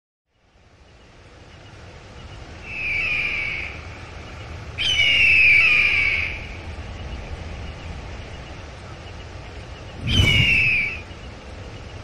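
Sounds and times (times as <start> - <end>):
steady low hum: 0.3 - 12.0
bird calling: 1.0 - 12.0.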